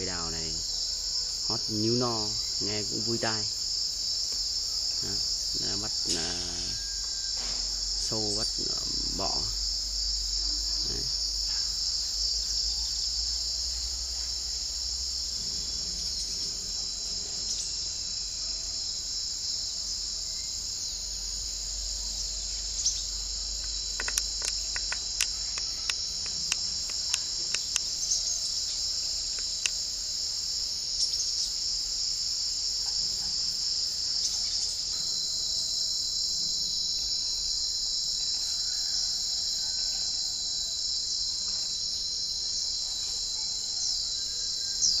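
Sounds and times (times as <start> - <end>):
insects shrilling: 0.0 - 45.0.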